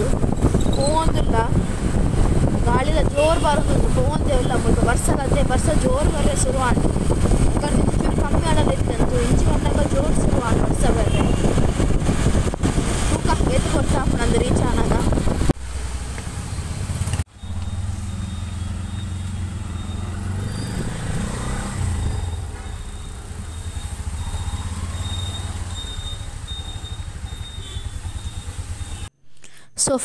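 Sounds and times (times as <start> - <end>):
auto-rickshaw engine running: 0.0 - 29.1
road and traffic noise: 0.0 - 29.2.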